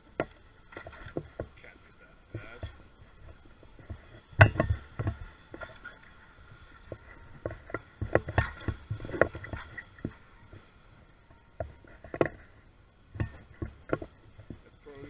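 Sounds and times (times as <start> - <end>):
thumps and crackles: 0.0 - 15.0.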